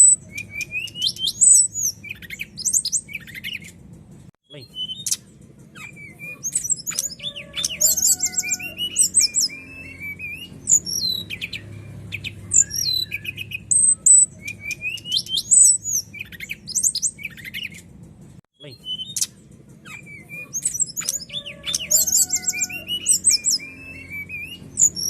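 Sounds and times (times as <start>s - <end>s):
bird singing chirps and trills: 0.0s - 3.8s, 4.5s - 17.9s, 18.6s - 25.0s.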